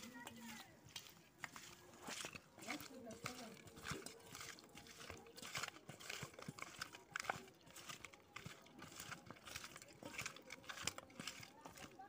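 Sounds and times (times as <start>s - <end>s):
wet squishing of fish in bowl: 0.0s - 12.0s.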